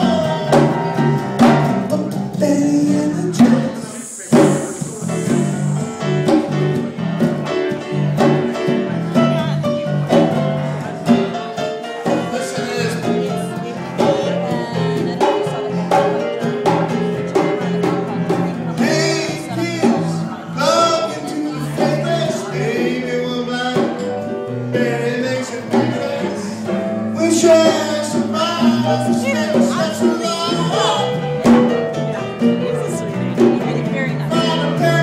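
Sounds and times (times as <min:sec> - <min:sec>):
person singing: 0:00.0 - 0:07.0, 0:11.8 - 0:35.0
bass line: 0:00.0 - 0:35.0
guitar: 0:00.0 - 0:35.0.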